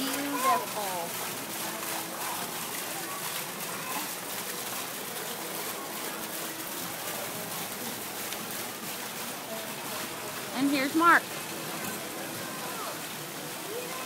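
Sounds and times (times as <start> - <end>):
waterfall pouring into pond: 0.0 - 14.0.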